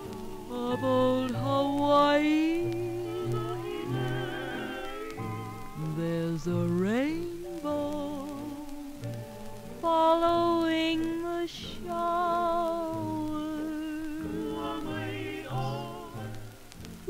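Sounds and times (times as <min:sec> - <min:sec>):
slow instrumental song with vibrato: 0:00.0 - 0:17.0
soft low accompaniment: 0:00.0 - 0:17.0.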